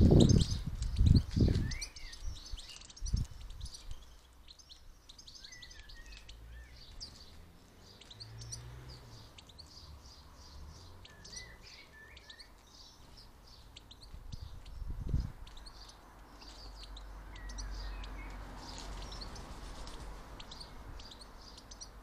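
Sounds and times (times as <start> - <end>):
finches twittering: 0.0 - 22.0.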